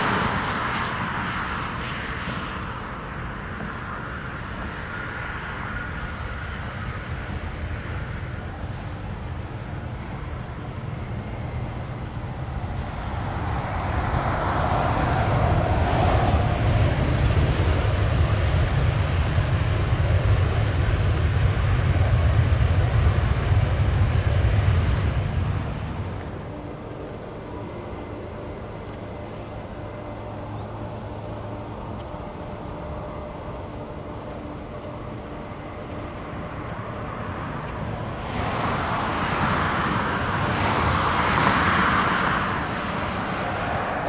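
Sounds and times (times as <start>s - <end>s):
falling engine whine: 0.0s - 44.0s
jet airliner engines rumbling: 0.0s - 44.0s.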